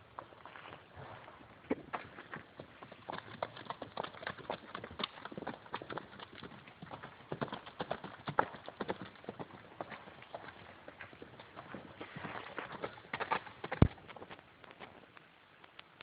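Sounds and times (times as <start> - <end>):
horses galloping: 0.0 - 15.2.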